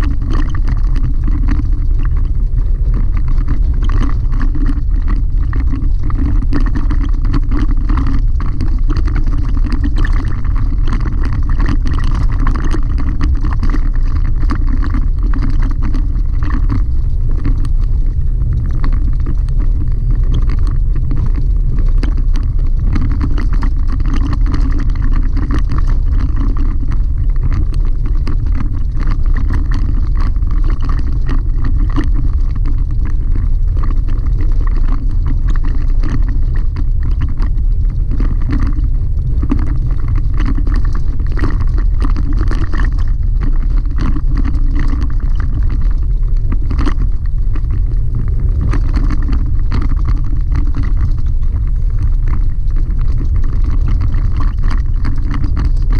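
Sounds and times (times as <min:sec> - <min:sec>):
gravel ticks: 0:00.0 - 0:55.9.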